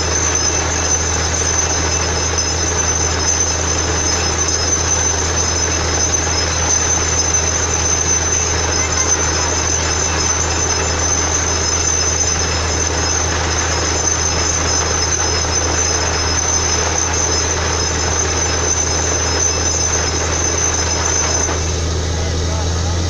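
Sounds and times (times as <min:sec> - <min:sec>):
drilling rig running: 0:00.0 - 0:23.0.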